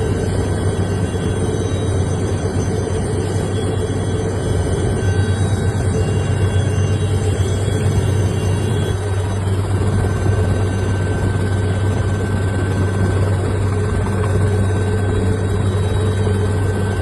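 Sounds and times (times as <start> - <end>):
helicopter droning: 0.0 - 17.0
thin steady tones: 0.0 - 17.0.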